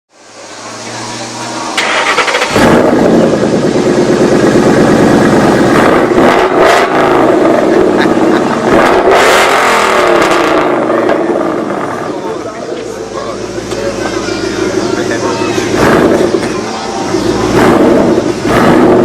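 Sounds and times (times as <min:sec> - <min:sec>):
car engine revving: 0:00.2 - 0:19.0.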